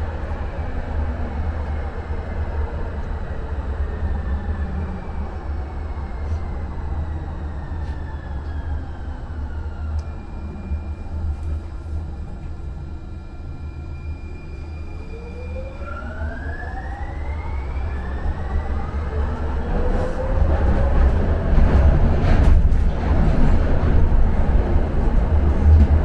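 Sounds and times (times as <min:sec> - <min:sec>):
light-rail car rumble: 0:00.0 - 0:26.0.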